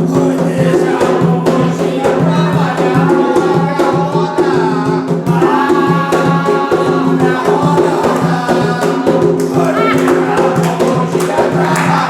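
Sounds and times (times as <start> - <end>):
hand drums beating: 0.0 - 12.0
voices singing a chant: 0.0 - 12.0.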